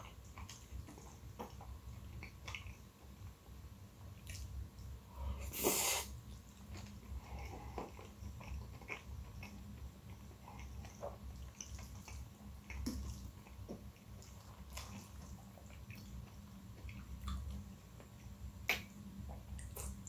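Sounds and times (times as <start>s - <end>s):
wet chewing and mouth smacks: 0.0s - 3.1s, 4.2s - 4.9s, 6.2s - 20.0s.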